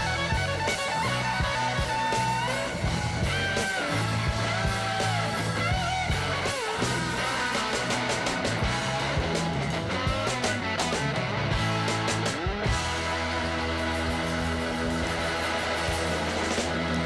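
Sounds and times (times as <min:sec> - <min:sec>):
electric guitar lead bending: 0:00.0 - 0:17.0
rock music: 0:00.0 - 0:17.0.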